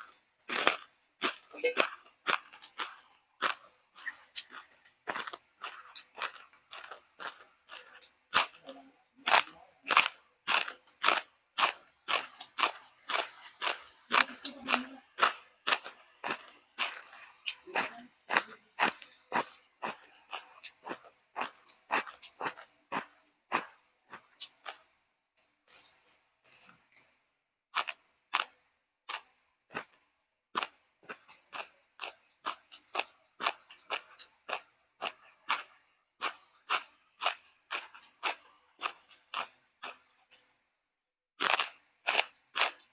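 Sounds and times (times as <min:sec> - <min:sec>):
person chewing crunchy food: 0:00.0 - 0:40.7, 0:41.3 - 0:42.9.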